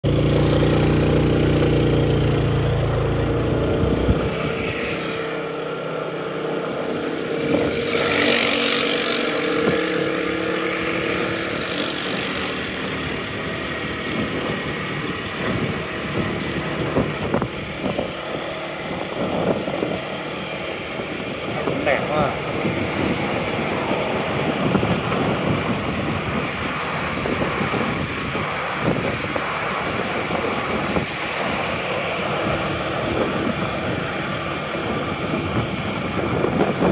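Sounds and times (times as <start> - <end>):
motorbike engine at road speed: 0.0 - 36.9
road noise: 0.0 - 36.9
wind noise: 1.5 - 5.8, 6.7 - 36.9.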